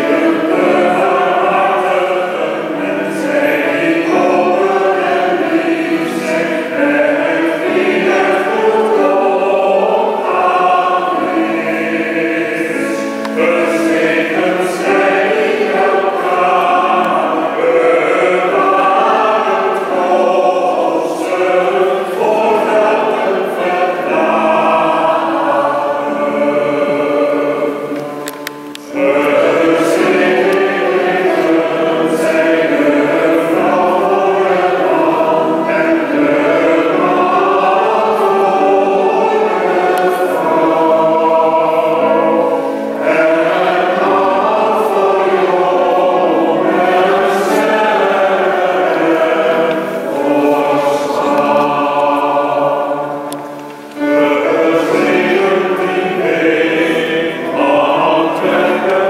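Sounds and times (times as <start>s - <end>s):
choir singing in parts: 0.0s - 59.0s.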